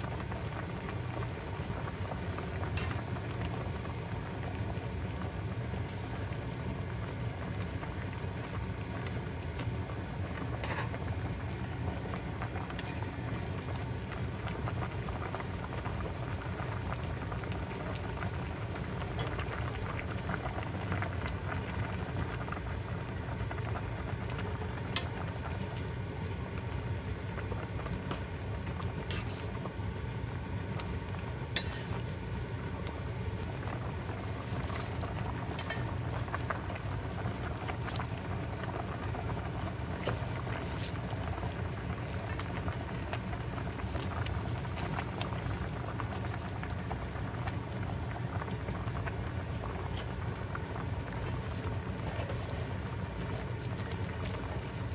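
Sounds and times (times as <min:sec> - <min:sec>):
soup boiling in a pot: 0:00.0 - 0:54.9.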